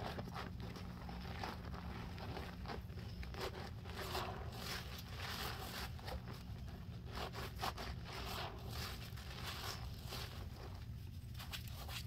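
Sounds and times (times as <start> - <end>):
wet sponge squelching: 0.0 - 12.0.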